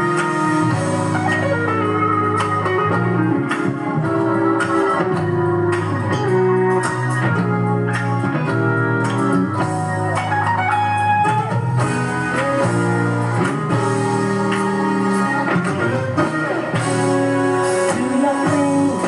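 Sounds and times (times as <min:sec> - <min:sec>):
instrumental gospel music: 0:00.0 - 0:19.0.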